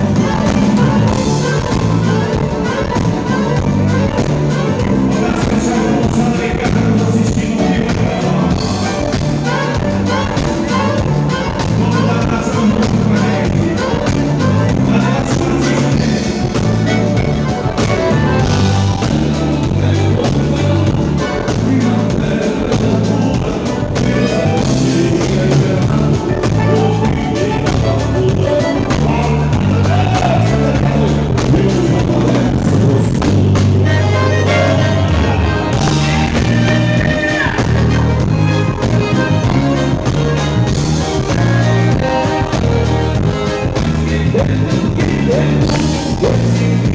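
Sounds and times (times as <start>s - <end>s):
bass line: 0.0s - 46.9s
person singing: 0.0s - 46.9s
steady drum beat: 0.0s - 46.9s.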